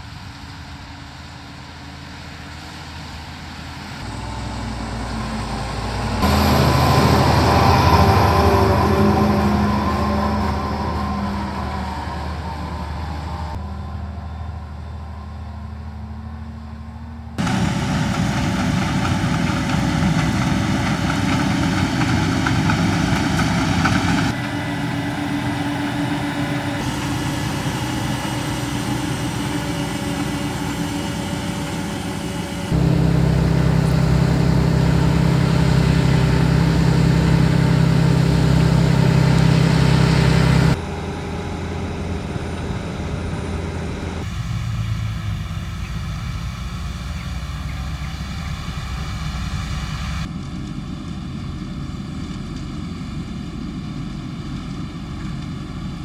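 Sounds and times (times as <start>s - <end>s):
harvesting equipment running: 0.0s - 13.6s, 17.4s - 56.0s
tractor engines: 0.0s - 56.0s.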